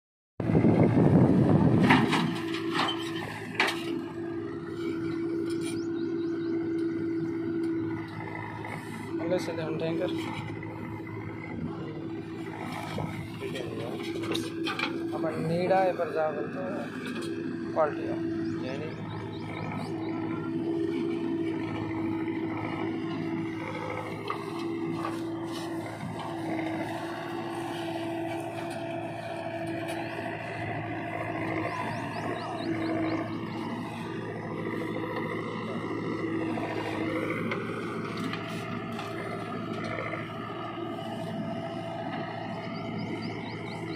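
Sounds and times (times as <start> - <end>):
held whining tone: 0.4 - 43.9
tractor engines running: 0.4 - 43.9.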